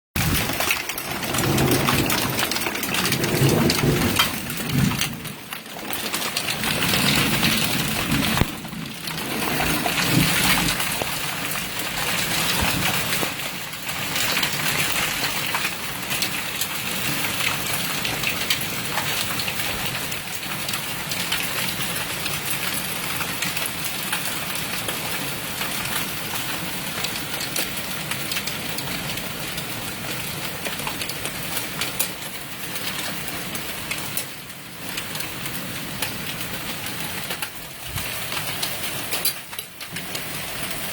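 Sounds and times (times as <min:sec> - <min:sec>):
hail and rain hitting surfaces: 0:00.2 - 0:40.9.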